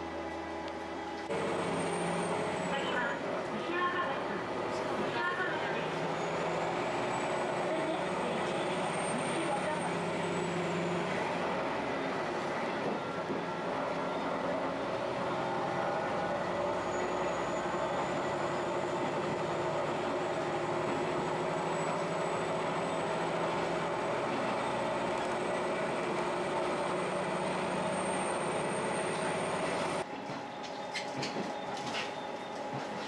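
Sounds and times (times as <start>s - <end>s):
railcar engine and wheels droning: 0.0s - 33.0s.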